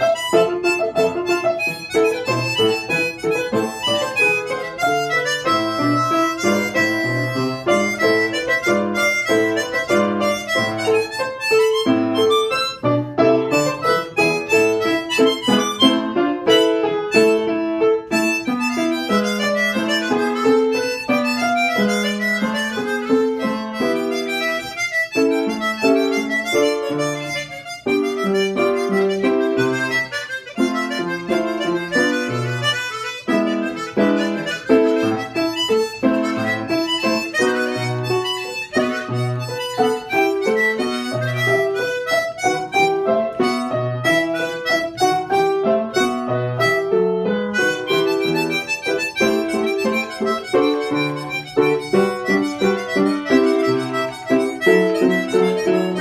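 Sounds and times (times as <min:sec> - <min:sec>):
harmonica playing fast runs: 0:00.0 - 0:56.0
piano accompaniment: 0:00.0 - 0:56.0.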